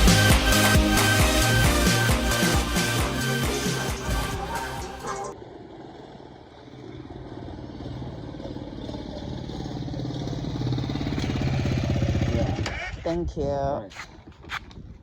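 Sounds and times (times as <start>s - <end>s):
motorcycle engine running: 0.0s - 13.3s.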